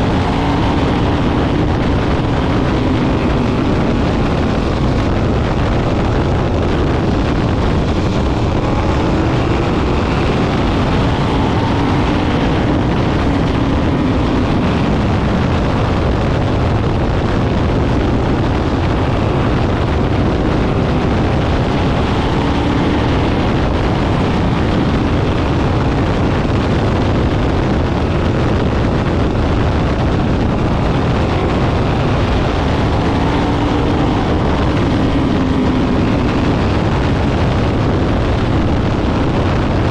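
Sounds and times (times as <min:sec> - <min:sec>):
race car engines: 0:00.0 - 0:39.9.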